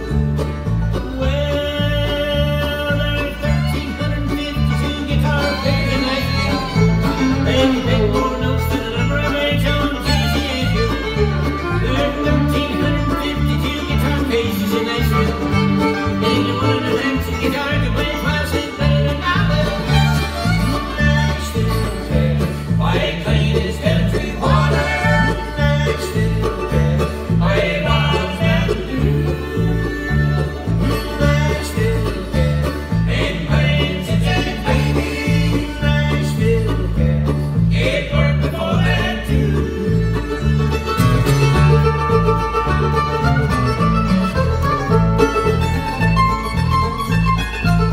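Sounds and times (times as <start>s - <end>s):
fiddle: 0.0s - 47.9s
picked mandolin: 0.0s - 47.9s
rolling banjo: 0.0s - 47.9s
strummed acoustic guitar: 0.0s - 47.9s
upright bass: 0.0s - 47.9s.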